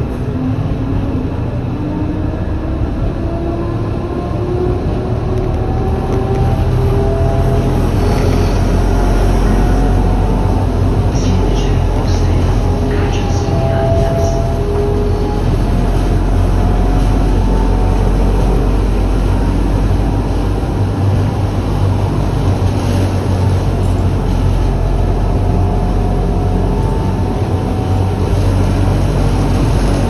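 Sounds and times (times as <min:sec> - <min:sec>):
tram wheels rumbling on rails: 0:00.0 - 0:30.0.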